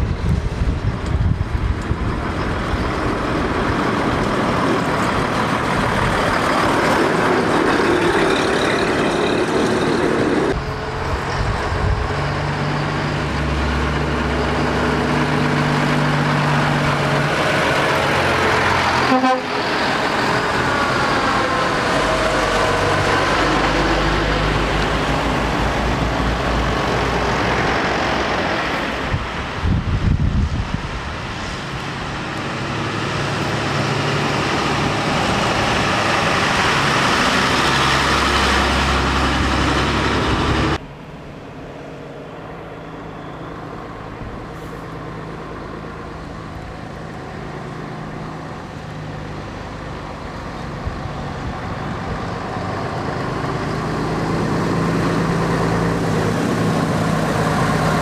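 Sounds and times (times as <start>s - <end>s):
heavy diesel lorry engines: 0.0s - 58.0s.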